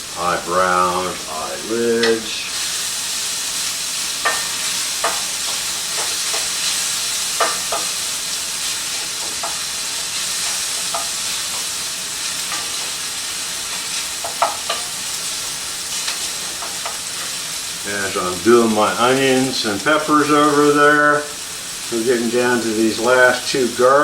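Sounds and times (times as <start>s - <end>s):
onions and peppers sizzling in a pan: 0.0s - 24.0s.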